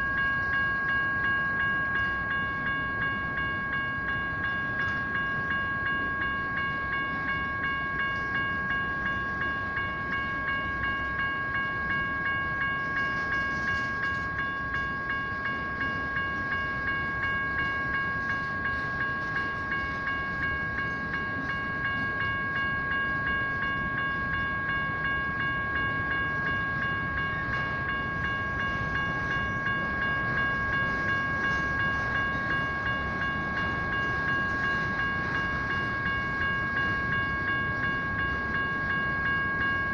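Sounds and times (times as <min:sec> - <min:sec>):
electronic crossing bells ringing: 0:00.0 - 0:39.9
passing train rumble: 0:00.0 - 0:39.9.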